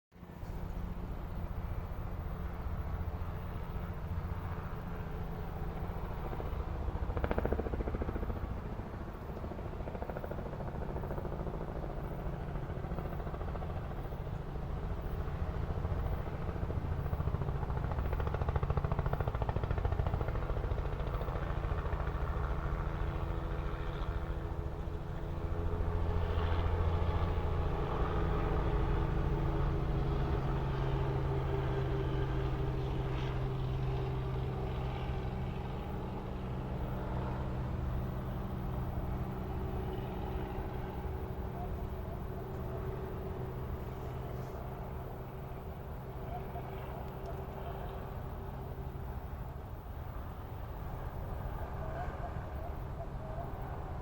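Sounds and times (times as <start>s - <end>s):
helicopter rotor drone: 0.2s - 54.0s.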